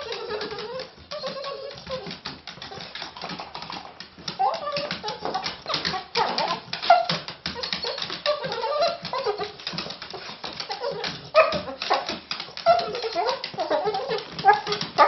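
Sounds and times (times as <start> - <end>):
dog yipping and whining: 0.0 - 3.4, 4.2 - 15.0
fast irregular tapping: 1.8 - 15.0.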